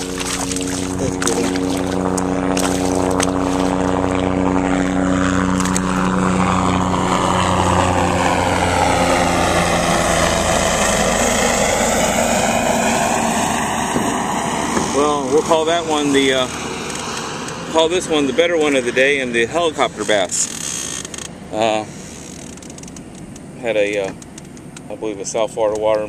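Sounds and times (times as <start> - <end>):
helicopter flying overhead: 0.0 - 26.0.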